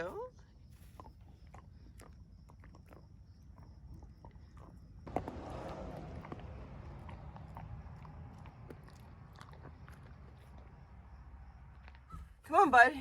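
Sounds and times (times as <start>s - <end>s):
dog chewing a treat: 0.8s - 12.1s.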